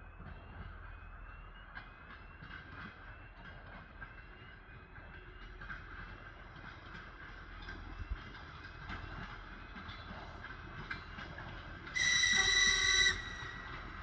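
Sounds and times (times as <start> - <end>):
railcar low rumble: 0.0 - 14.0
wheels clicking over rail joints: 0.1 - 14.0.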